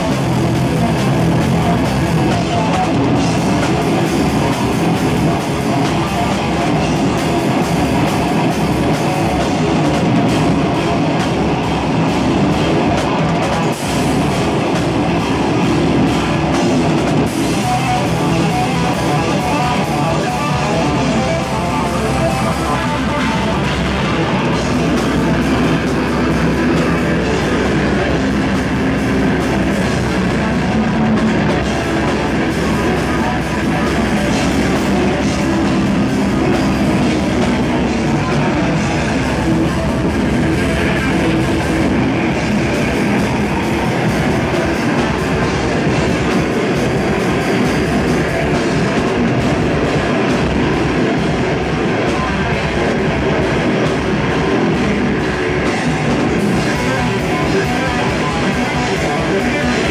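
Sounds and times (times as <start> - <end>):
distorted electric guitars: 0.0 - 59.9
drum kit: 0.0 - 59.9.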